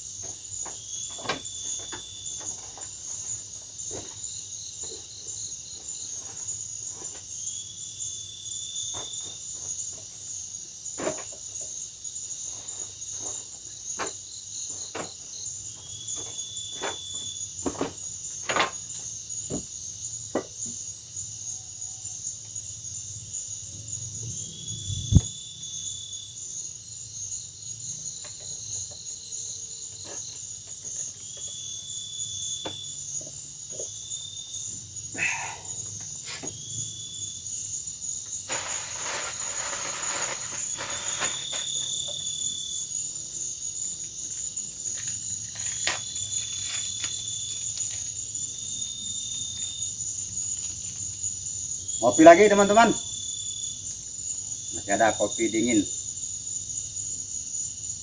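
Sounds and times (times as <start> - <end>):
insects chirring: 0.0 - 58.0
rising insect call: 0.0 - 58.0.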